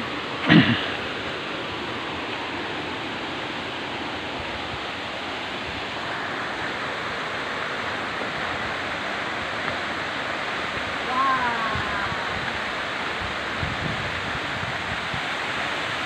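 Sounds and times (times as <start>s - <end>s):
water rushing over stones: 0.0s - 16.0s.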